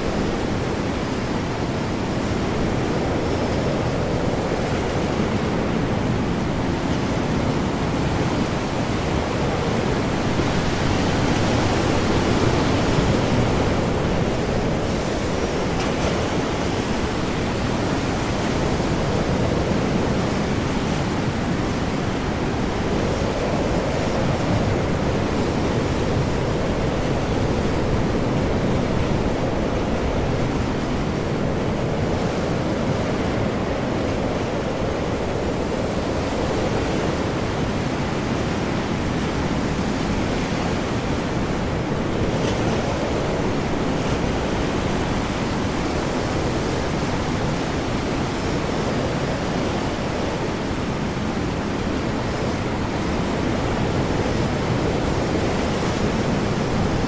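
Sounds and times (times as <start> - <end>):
heavy ocean waves surging: 0.0 - 57.0
high wind: 0.0 - 57.0.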